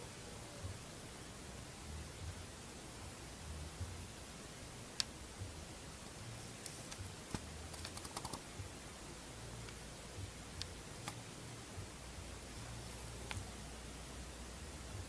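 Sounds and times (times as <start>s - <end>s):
recording hiss: 0.0s - 15.0s.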